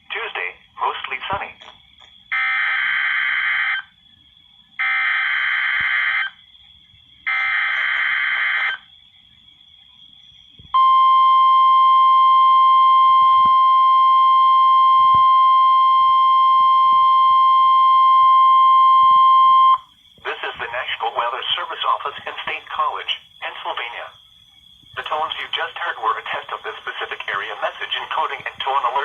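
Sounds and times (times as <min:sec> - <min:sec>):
steady warning alarm tone: 0:02.0 - 0:04.0, 0:04.7 - 0:06.4, 0:07.2 - 0:09.0, 0:10.6 - 0:29.0.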